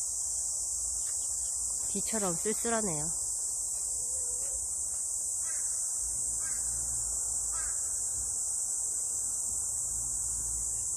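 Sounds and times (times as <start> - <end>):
insect chorus drone: 0.0 - 10.9.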